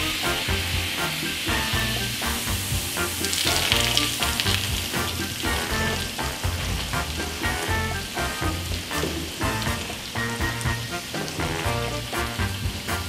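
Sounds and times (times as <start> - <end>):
background music: 0.0 - 13.0
liquid sizzling on hot plate: 0.0 - 13.0.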